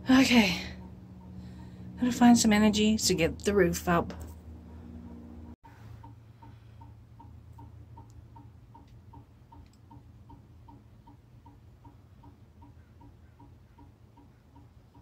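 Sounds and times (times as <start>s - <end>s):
vent fan ticking: 0.0s - 4.0s, 4.6s - 15.0s.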